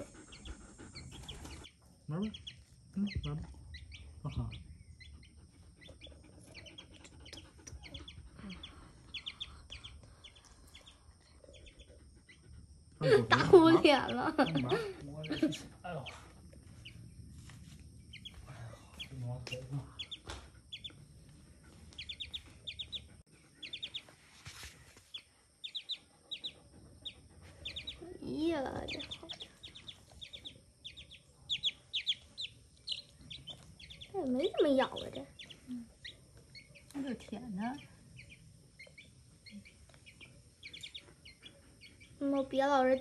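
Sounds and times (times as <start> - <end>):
baby chick peeping: 0.0 - 43.0.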